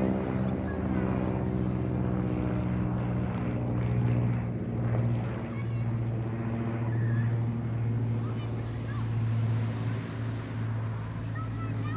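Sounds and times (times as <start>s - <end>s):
airplane engines droning: 0.0s - 11.9s.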